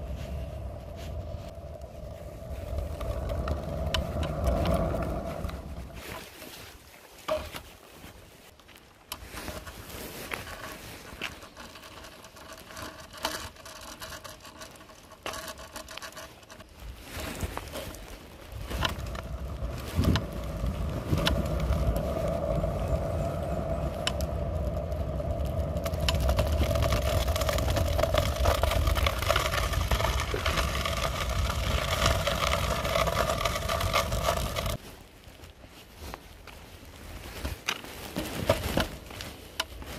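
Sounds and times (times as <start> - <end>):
scooter wheels rolling on asphalt: 0.0 - 39.9.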